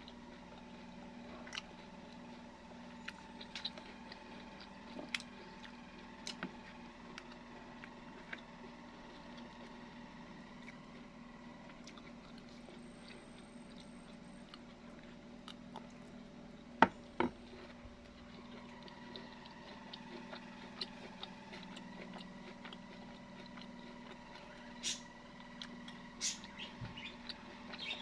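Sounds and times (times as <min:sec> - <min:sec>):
faint steady hum: 0:00.0 - 0:28.0
person chewing: 0:00.0 - 0:28.0.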